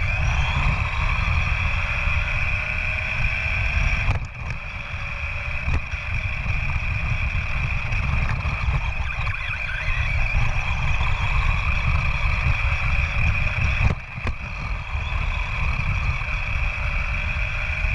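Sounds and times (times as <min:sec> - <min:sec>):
rc car motor whine: 0:00.0 - 0:17.9
vibration rumble and wind noise: 0:00.0 - 0:17.9.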